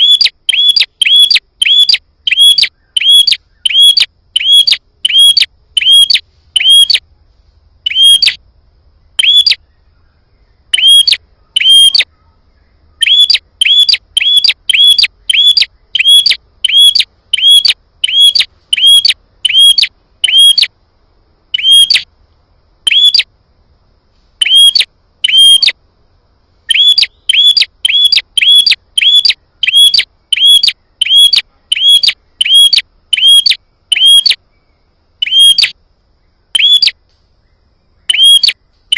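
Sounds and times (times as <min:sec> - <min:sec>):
bird chirping sharply: 0:00.0 - 0:07.0, 0:07.8 - 0:08.4, 0:09.2 - 0:09.8, 0:10.4 - 0:12.3, 0:13.0 - 0:20.7, 0:21.5 - 0:22.1, 0:22.9 - 0:23.3, 0:24.4 - 0:25.8, 0:26.7 - 0:35.8, 0:36.6 - 0:38.6.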